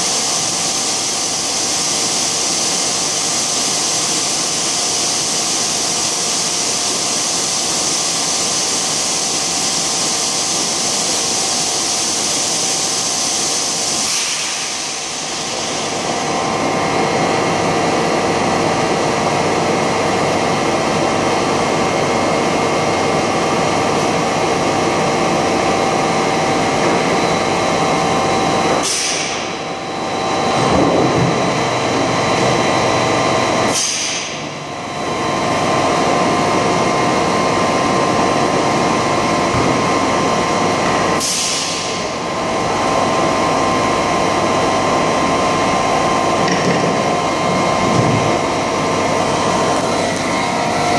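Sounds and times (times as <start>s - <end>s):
machine humming: 0.0s - 50.9s.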